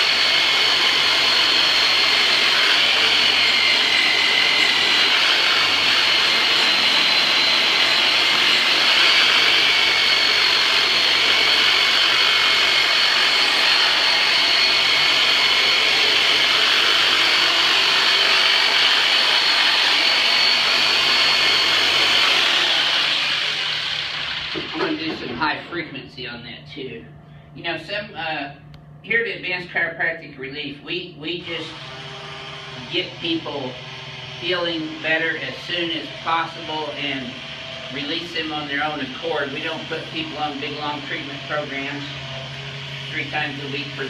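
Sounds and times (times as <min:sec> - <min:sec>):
electric massager whining: 0:00.0 - 0:30.0, 0:30.8 - 0:44.0.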